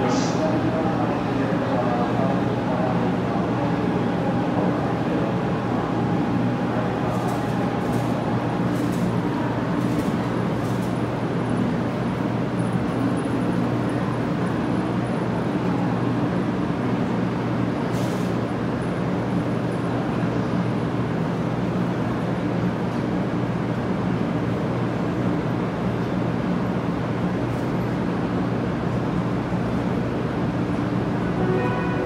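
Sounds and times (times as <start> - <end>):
station background noise: 0.0 - 32.0
train low hum: 0.0 - 32.0.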